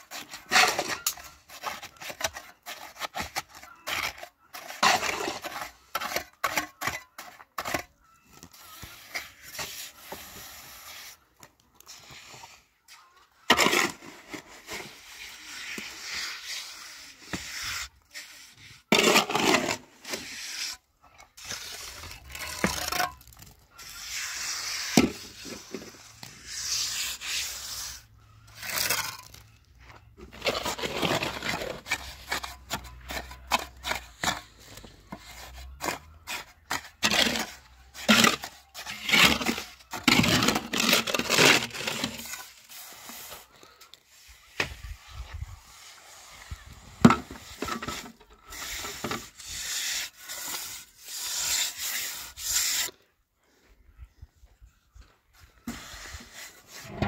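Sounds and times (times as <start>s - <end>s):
scraping and rubbing strokes: 0.0s - 12.7s, 13.5s - 53.1s, 55.0s - 57.0s.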